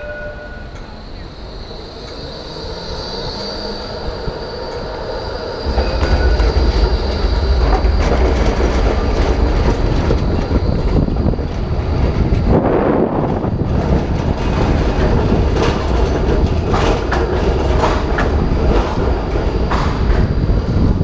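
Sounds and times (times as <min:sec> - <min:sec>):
tram wheel squeal: 0:00.0 - 0:21.0
low rumble: 0:01.7 - 0:21.0.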